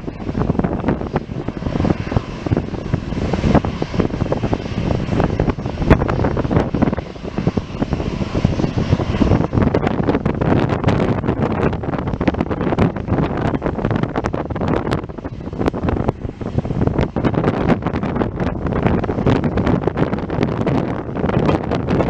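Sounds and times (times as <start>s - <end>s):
low rumble: 0.0s - 22.0s
wind buffeting microphone: 0.0s - 22.0s.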